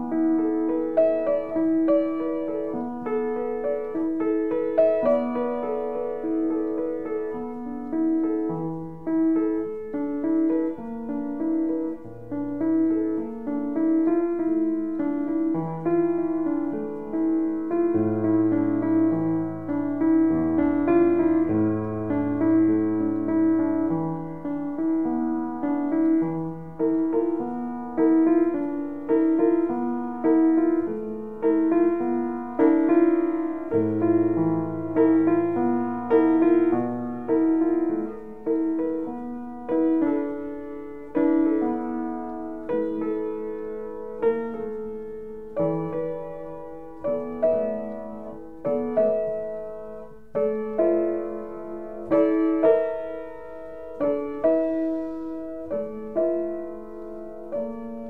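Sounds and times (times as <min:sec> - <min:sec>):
low piano bass notes: 0:00.0 - 0:58.0
piano chords: 0:00.0 - 0:58.0.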